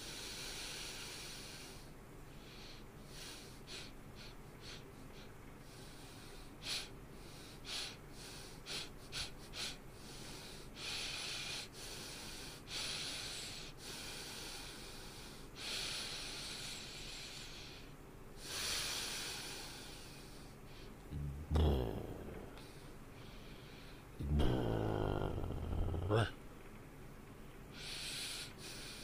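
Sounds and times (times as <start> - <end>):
long hissing breaths: 0.0 - 26.3, 27.7 - 29.0.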